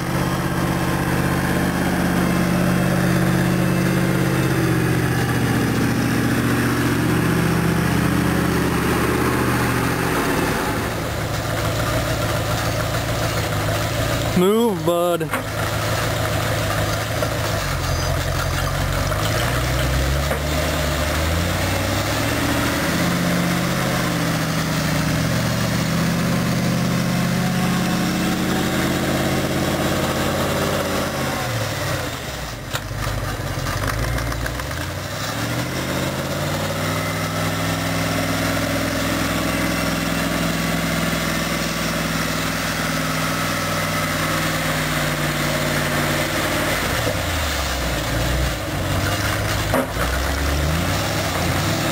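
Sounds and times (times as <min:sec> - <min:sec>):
tractor engine running under load: 0:00.0 - 0:51.9.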